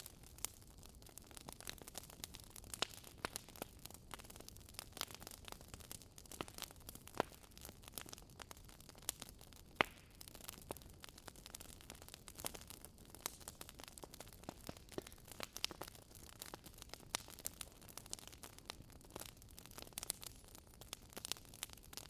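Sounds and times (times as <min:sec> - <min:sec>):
faint hiss of flames: 0:00.0 - 0:22.0
wood fire crackling: 0:00.0 - 0:22.0.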